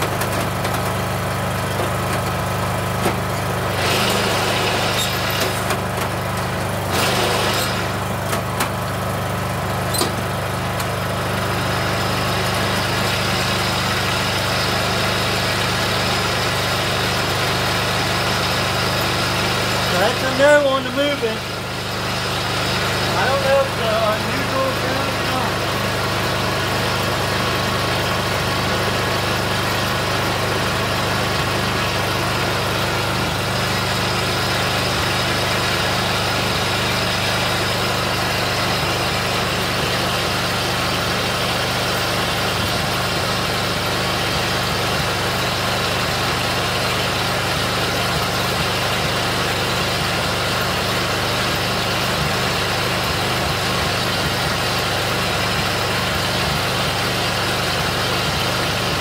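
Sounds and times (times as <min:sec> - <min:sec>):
lawn tractor engine idling: 0:00.0 - 0:59.0.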